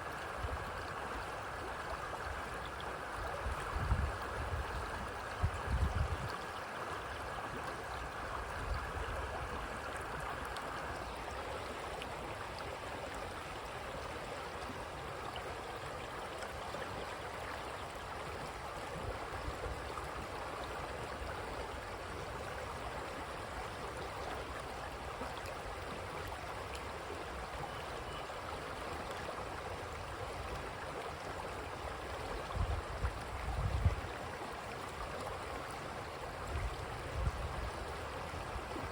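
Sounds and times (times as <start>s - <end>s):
creek water babbling: 0.0s - 38.9s.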